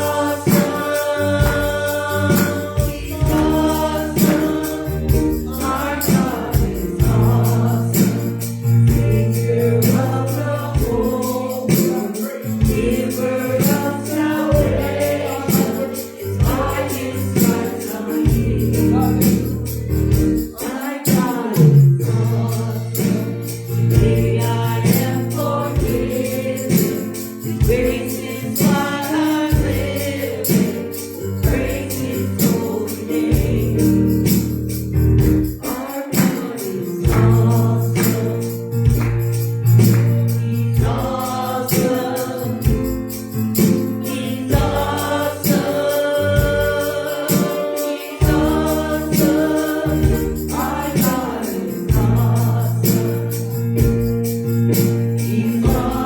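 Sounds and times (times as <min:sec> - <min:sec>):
percussion beat: 0:00.0 - 0:56.0
voices singing gospel: 0:00.0 - 0:56.0.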